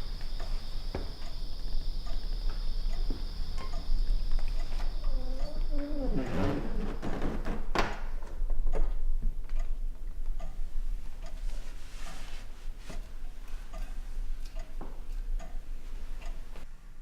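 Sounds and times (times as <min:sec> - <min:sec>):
steady low hum: 0:00.0 - 0:17.0
soft regular ticks: 0:00.1 - 0:06.8, 0:09.5 - 0:16.7.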